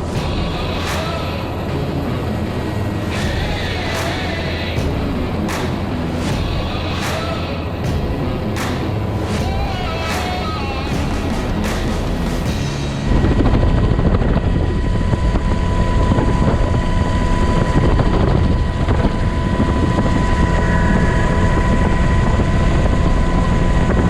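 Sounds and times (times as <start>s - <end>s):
helicopter rotor and engine noise: 0.0s - 24.0s
high whine: 0.0s - 24.0s.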